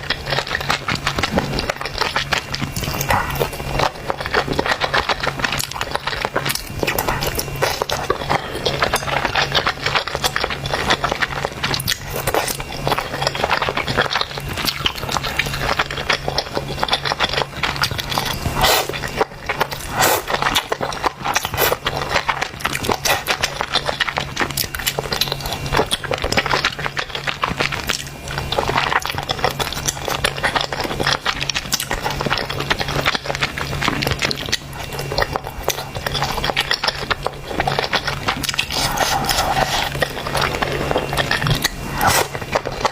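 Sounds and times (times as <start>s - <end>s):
slurping and chewing noodles: 0.0s - 42.9s.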